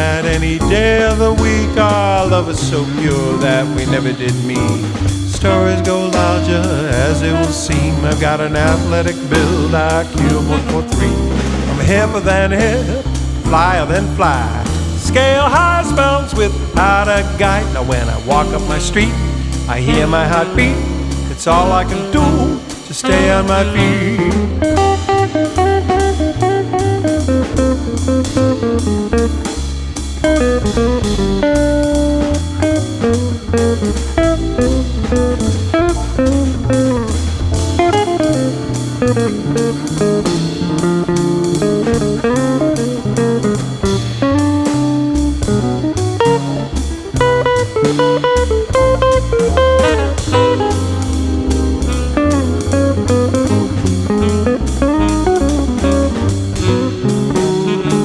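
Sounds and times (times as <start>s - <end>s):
bass: 0.0s - 58.0s
blues guitar lead: 0.0s - 58.0s
steady drum beat: 0.0s - 58.0s.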